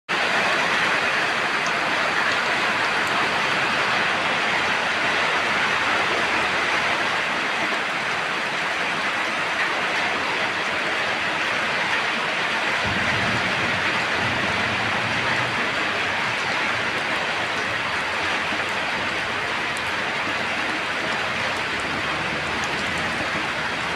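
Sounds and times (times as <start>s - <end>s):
rain falling: 0.1s - 23.9s.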